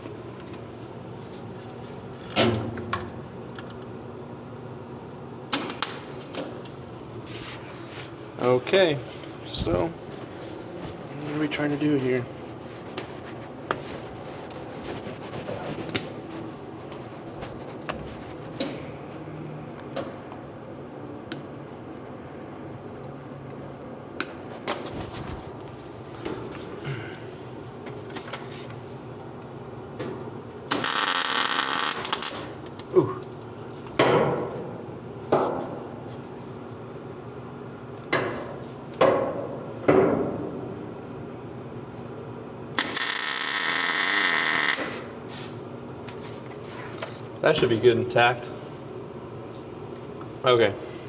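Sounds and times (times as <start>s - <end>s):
shop hum: 0.0s - 51.0s.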